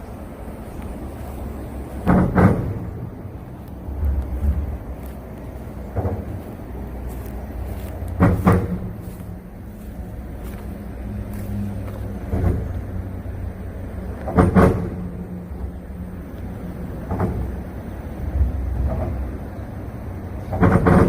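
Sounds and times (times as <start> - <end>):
wheels clunking over expansion joint: 0.0 - 9.6, 11.8 - 21.0
passing traffic hum: 0.0 - 21.0.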